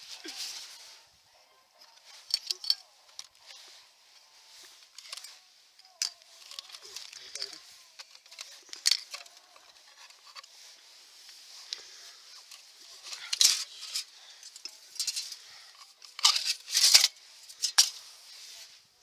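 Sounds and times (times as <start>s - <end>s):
camping cookware and bag rustling: 0.0s - 19.0s.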